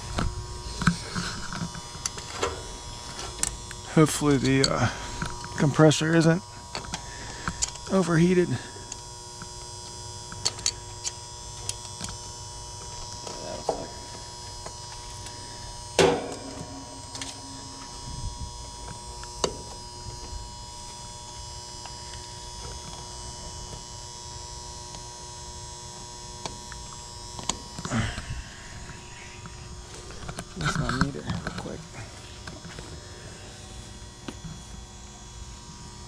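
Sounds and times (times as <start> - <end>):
air conditioner humming: 0.0 - 36.0.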